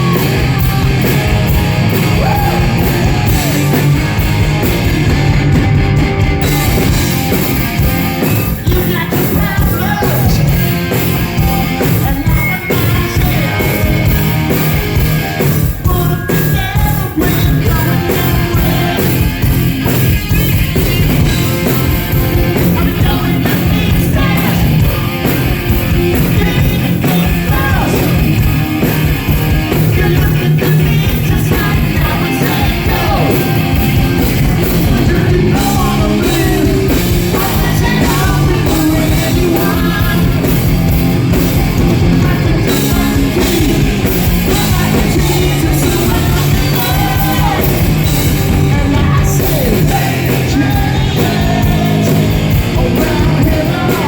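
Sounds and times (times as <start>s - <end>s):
man singing and yelling: 0.0s - 4.0s, 6.4s - 7.4s, 8.2s - 14.6s, 15.2s - 19.5s, 20.9s - 28.9s, 29.6s - 40.7s, 41.7s - 54.0s
bass: 0.0s - 54.0s
distorted electric guitars: 0.0s - 54.0s
drums: 0.0s - 54.0s.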